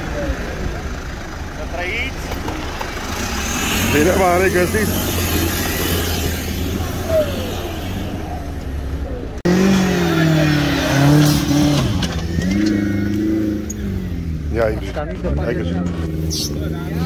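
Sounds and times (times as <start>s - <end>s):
engine low rumble: 0.0s - 17.0s
engine revving under load: 2.8s - 17.0s.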